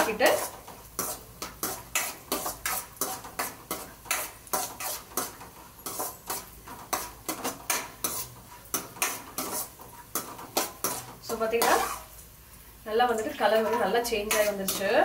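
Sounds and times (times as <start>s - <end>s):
metal spatula scraping a pan: 0.0s - 12.2s, 13.2s - 15.0s.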